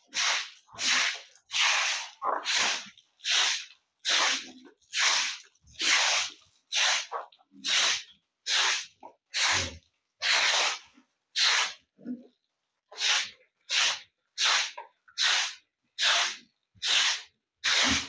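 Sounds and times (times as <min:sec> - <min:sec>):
broom sweeping wet concrete: 0:00.0 - 0:11.8, 0:12.9 - 0:18.0.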